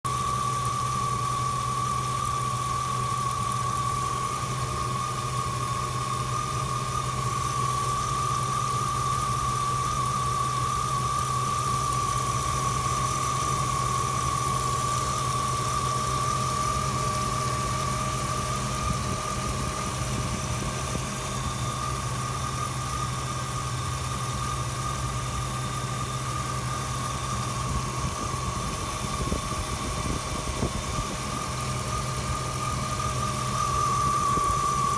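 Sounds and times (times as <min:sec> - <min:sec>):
car engine idling: 0:00.1 - 0:34.9
high-pitched whistle from engine: 0:00.1 - 0:34.9.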